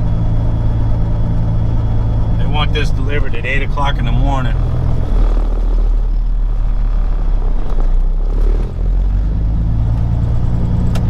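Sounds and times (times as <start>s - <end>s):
truck diesel engine rumble: 0.0s - 11.0s.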